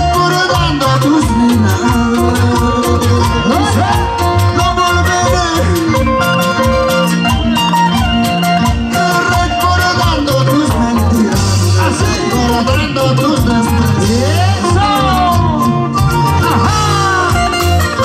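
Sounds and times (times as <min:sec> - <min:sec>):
live folk band music: 0:00.0 - 0:18.0.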